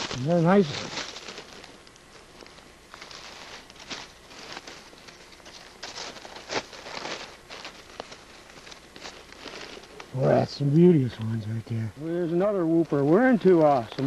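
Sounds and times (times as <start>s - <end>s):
dry leaves rustling and crackling: 0.0s - 10.8s, 12.0s - 14.0s.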